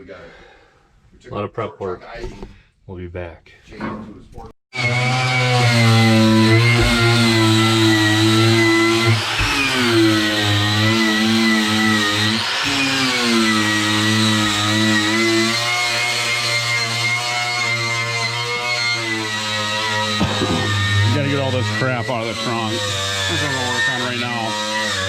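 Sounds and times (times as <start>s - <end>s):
electric power tool motor running: 4.8s - 25.0s.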